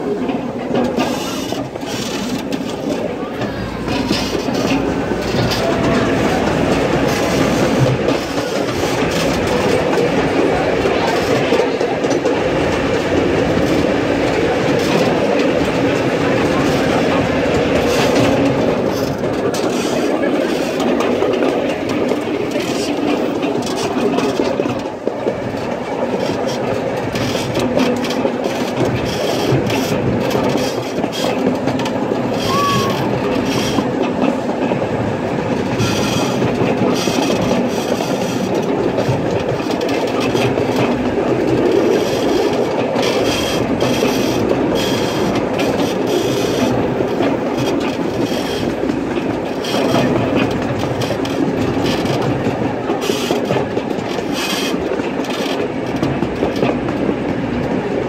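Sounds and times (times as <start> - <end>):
train wheels rumbling on track: 0.0 - 58.0
wheels clacking over rail joints: 0.0 - 58.0.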